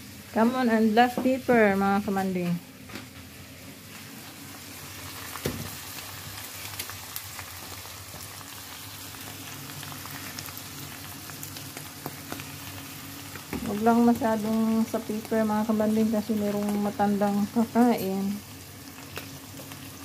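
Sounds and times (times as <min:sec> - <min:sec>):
meat and onion sizzling in pan: 0:00.0 - 0:20.0.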